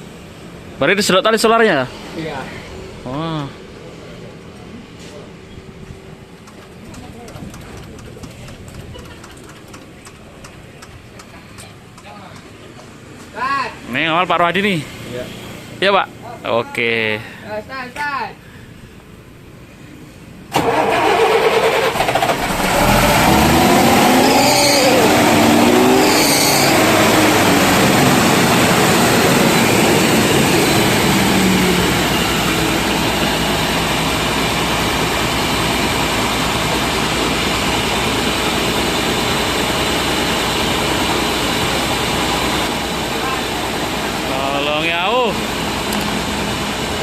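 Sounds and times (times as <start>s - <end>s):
diesel engine starting and idling: 0.0s - 13.1s, 20.2s - 47.0s.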